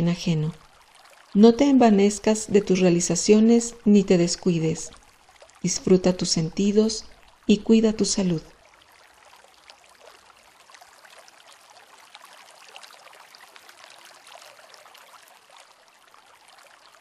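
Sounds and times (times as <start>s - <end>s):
water drips and splashes: 0.0s - 17.0s
water trickling: 0.0s - 17.0s.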